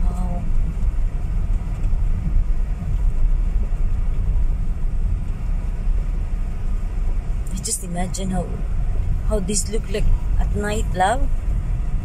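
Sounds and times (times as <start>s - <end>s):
car driving on gravel road: 0.0s - 12.0s.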